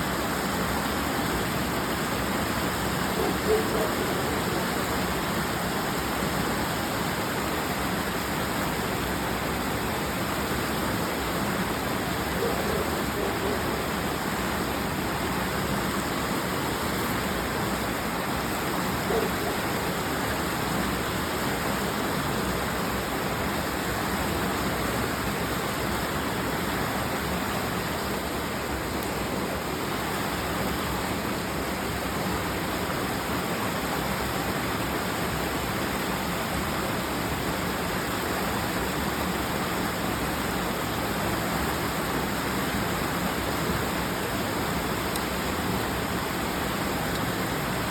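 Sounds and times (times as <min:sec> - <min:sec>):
creek water rushing: 0:00.0 - 0:47.9.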